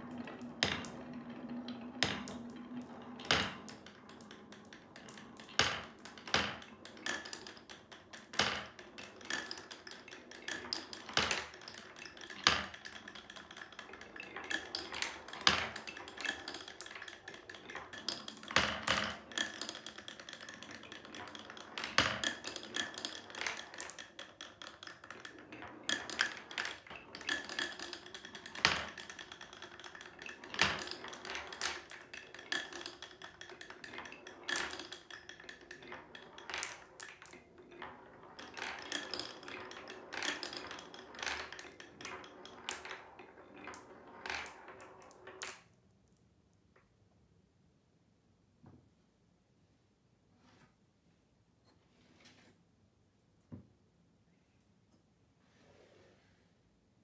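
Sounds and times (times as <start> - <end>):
marbles clacking and knocking: 0.0 - 45.8
marbles rolling on wooden track: 0.0 - 45.8.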